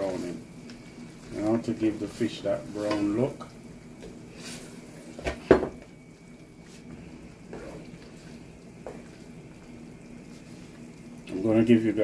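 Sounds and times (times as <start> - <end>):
stew simmering: 0.0 - 12.0.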